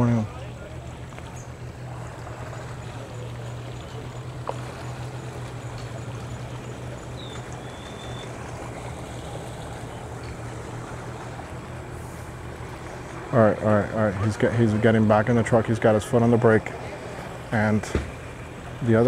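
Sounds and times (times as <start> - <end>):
engine idling: 0.0 - 19.0
water noise: 0.0 - 19.0.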